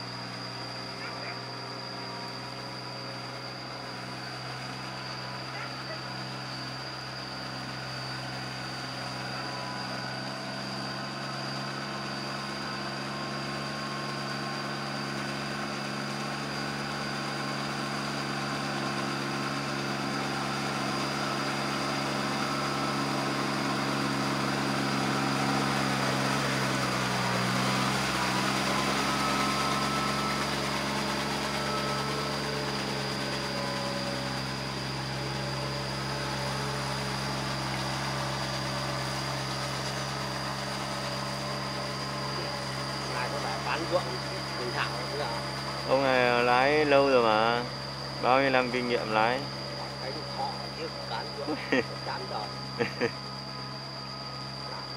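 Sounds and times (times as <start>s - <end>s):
diesel tractor engine running: 0.0s - 54.9s.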